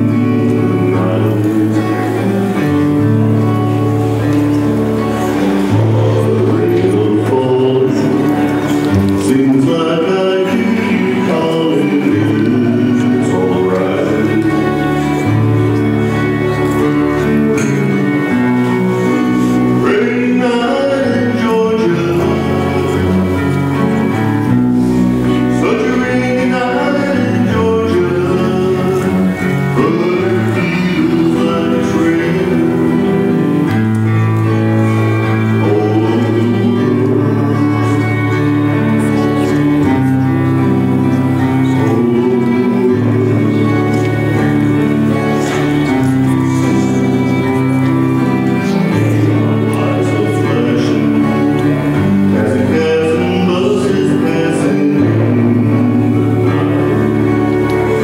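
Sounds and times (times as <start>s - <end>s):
acoustic band playing slow song: 0.0s - 58.0s
electric guitar: 0.0s - 58.0s
upright double bass: 0.0s - 58.0s.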